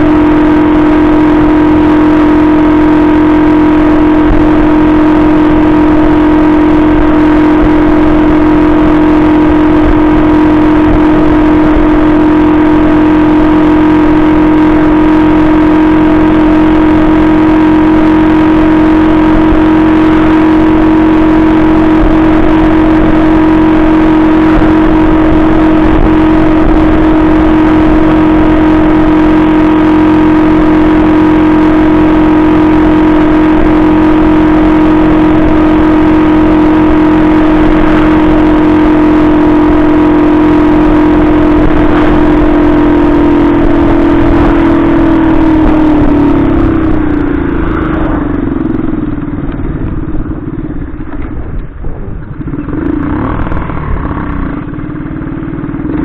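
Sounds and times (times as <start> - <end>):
moped engine running: 0.0 - 56.0.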